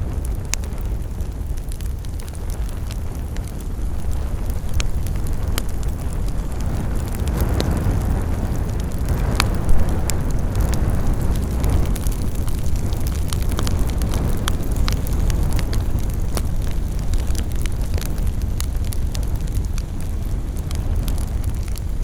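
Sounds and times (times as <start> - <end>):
campfire flames rushing: 0.0 - 22.0
fire crackling and popping: 0.0 - 22.0.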